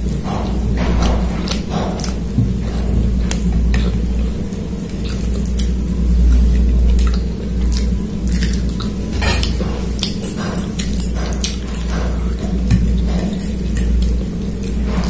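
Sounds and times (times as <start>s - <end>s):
steady low hum: 0.0s - 15.0s
wet chewing: 0.4s - 15.0s.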